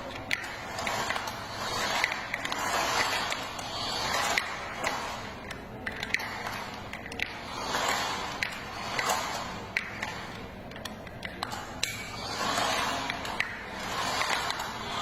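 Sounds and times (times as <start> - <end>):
toy truck wheels rolling: 0.1 - 15.0.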